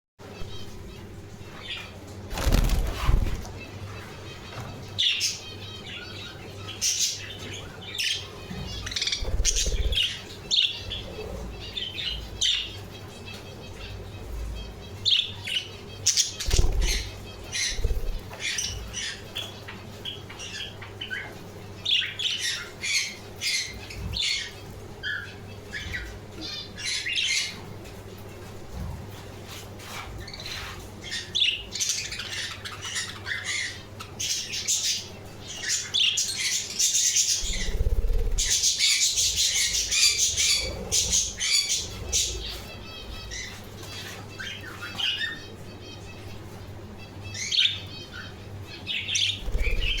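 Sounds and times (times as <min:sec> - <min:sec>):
budgerigars chirping and chattering: 0:00.3 - 0:50.0.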